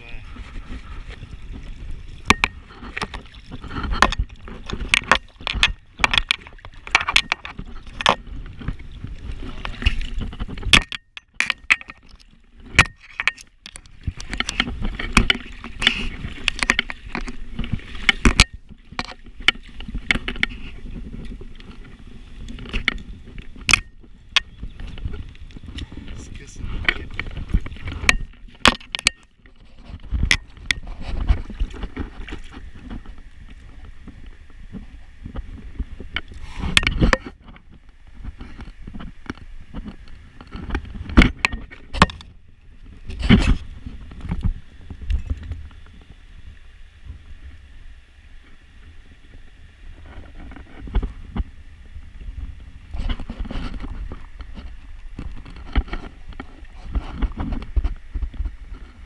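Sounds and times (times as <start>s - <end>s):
river water splashing: 0.0s - 59.0s.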